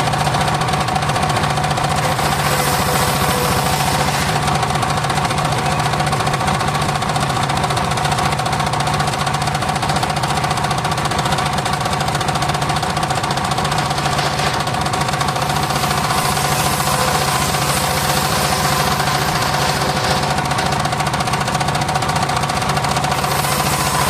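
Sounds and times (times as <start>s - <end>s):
engine-driven circular saw running: 0.0s - 24.0s.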